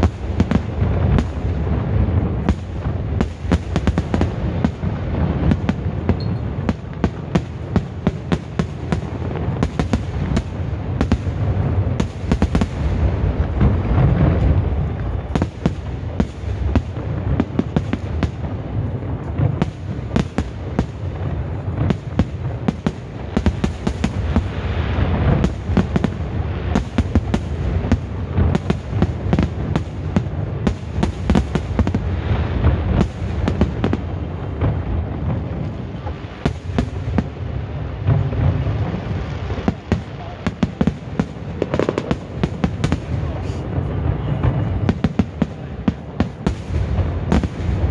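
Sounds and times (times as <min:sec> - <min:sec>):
fireworks sharp bangs: 0:00.0 - 0:47.9.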